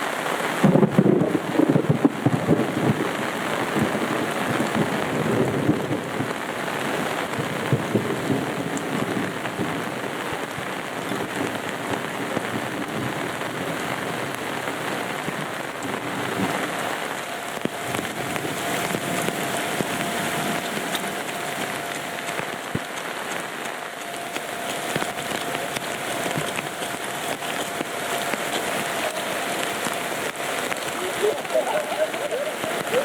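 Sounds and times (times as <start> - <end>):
heavy rain pouring: 0.0 - 33.0
thunder rumbling: 0.0 - 33.0.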